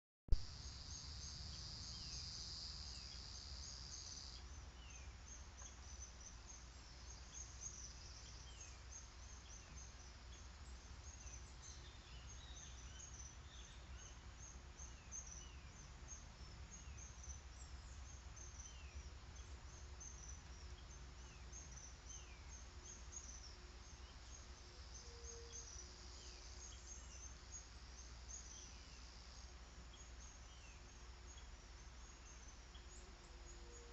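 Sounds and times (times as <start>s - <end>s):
insect buzz: 0.3s - 33.9s.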